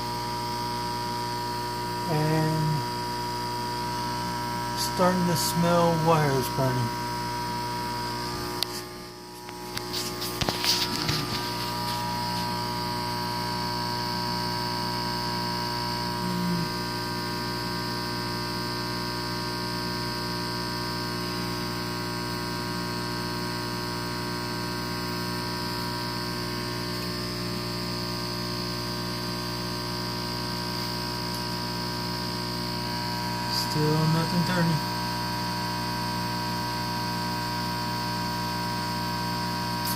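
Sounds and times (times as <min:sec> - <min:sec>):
stalled fan motor humming: 0:00.0 - 0:18.4, 0:21.8 - 0:39.9.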